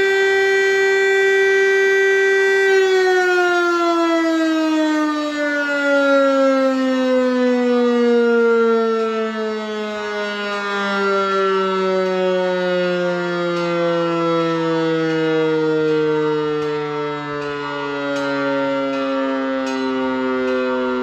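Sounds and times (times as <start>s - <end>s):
motor siren winding down: 0.0s - 21.0s.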